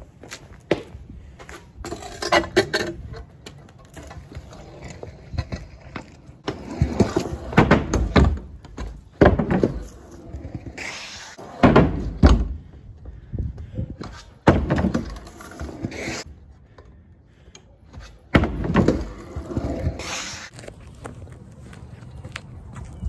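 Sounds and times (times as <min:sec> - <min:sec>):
scooter rolling on concrete: 0:00.1 - 0:23.0.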